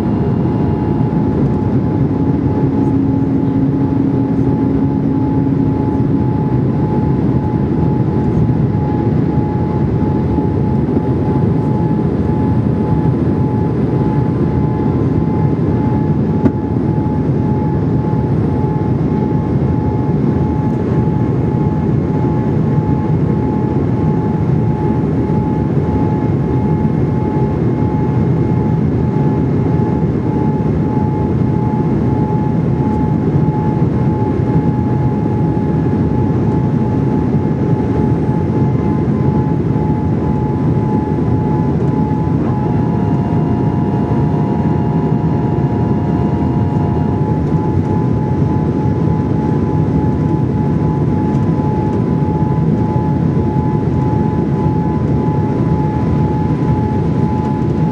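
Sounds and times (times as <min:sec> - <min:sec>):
airflow and engine noise: 0:00.0 - 0:57.9
steady mid-pitched hum: 0:00.0 - 0:57.9.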